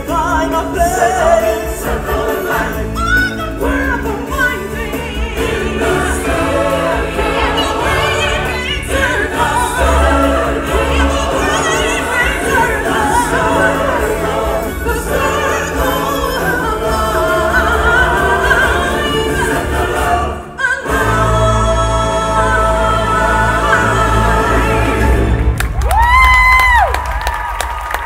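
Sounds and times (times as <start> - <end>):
choir singing: 0.0 - 25.6.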